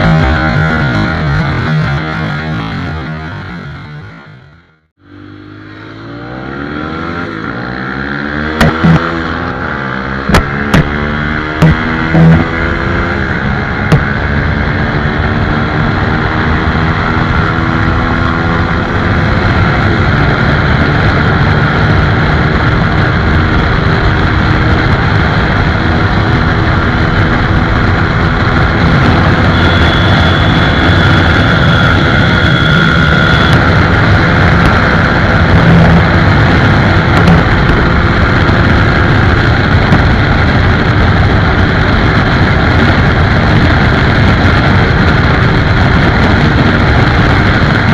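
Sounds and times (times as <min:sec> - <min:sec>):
motorcycle engine at speed: 0:00.0 - 0:47.9
road noise: 0:00.0 - 0:47.9.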